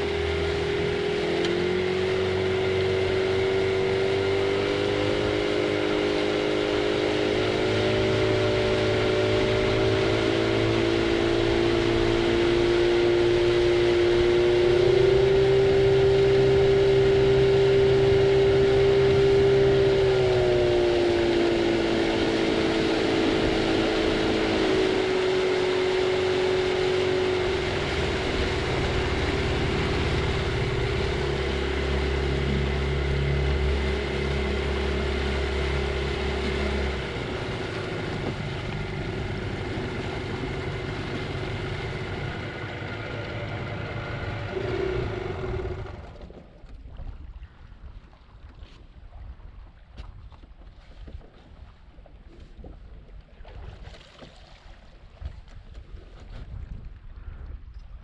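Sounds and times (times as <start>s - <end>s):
outboard motor running: 0.0s - 57.8s.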